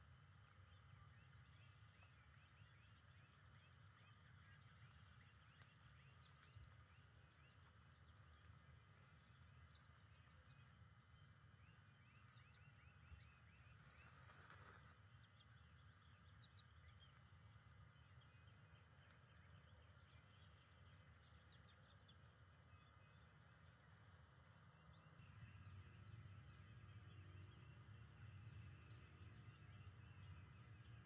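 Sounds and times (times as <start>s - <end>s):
low steady rumble: 0.0s - 31.0s.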